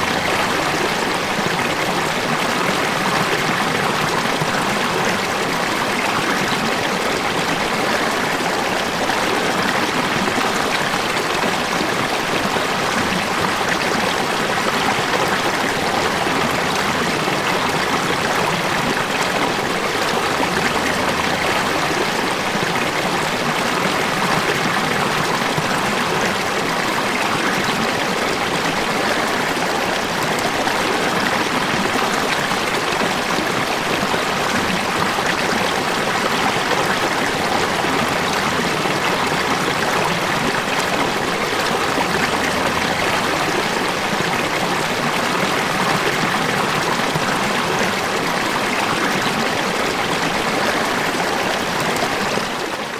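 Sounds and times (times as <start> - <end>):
falling water rushing: 0.0 - 52.9.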